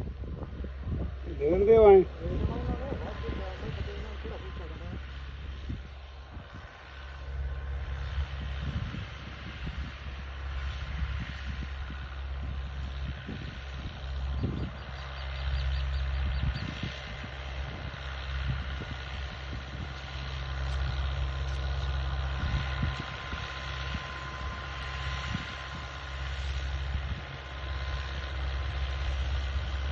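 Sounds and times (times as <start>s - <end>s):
tractor diesel engine droning: 0.0s - 29.9s.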